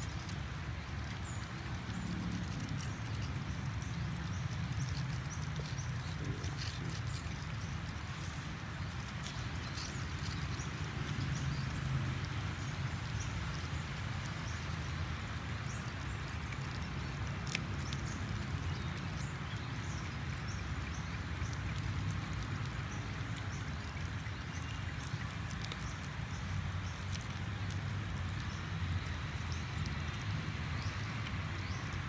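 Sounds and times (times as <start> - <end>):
puppies chewing and smacking: 0.0 - 32.0.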